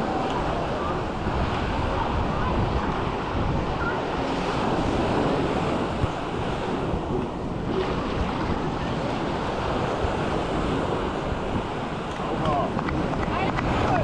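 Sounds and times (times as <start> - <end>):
sea surf washing on beach: 0.0 - 14.0
wind buffeting microphone: 0.0 - 14.0.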